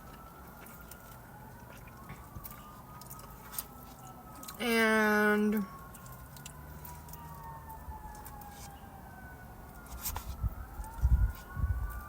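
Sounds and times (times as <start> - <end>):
faint wailing siren: 0.0 - 12.0.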